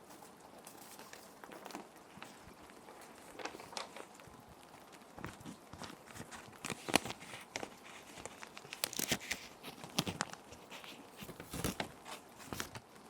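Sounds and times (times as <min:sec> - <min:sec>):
faint steady rain: 0:00.0 - 0:13.0
plastic sheet protectors crinkling: 0:00.0 - 0:13.0.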